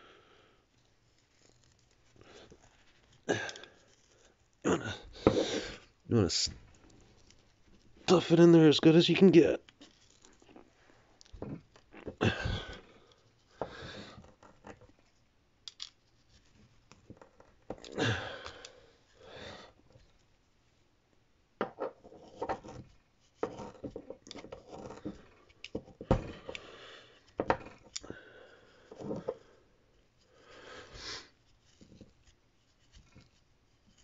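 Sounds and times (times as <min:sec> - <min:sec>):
scratchy rustling of wire wool: 0:00.6 - 0:15.3, 0:15.9 - 0:18.2, 0:22.0 - 0:26.5, 0:27.1 - 0:34.0.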